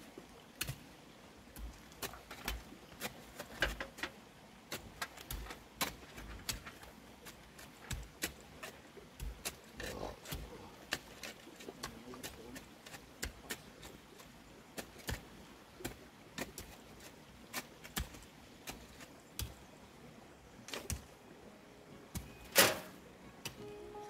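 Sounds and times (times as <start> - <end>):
shovel and hoe scraping earth: 1.6 - 19.6, 22.1 - 23.7.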